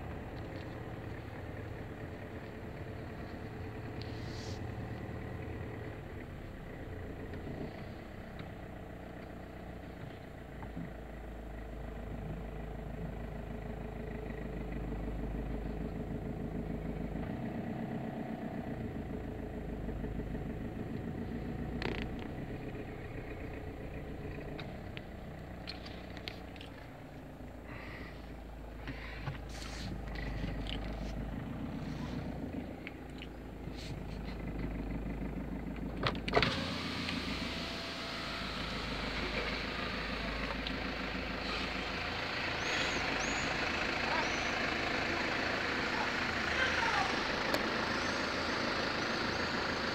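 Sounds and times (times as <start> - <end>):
car engine humming: 0.0 - 49.9.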